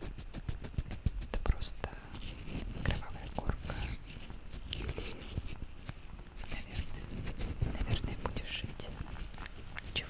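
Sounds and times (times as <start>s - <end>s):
crackly scratching: 0.0s - 10.0s.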